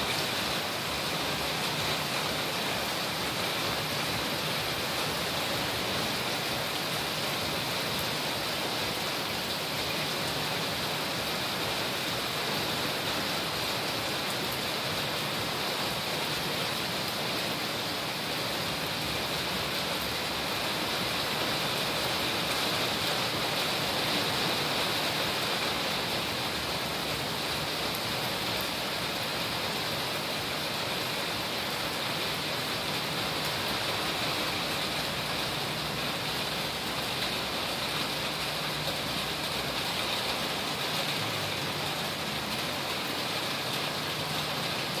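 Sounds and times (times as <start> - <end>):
heavy rain pouring on paving: 0.0 - 45.0.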